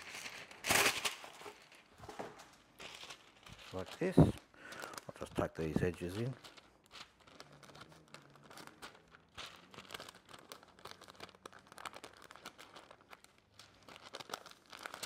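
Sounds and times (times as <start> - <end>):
baking paper crinkling: 0.0 - 15.0.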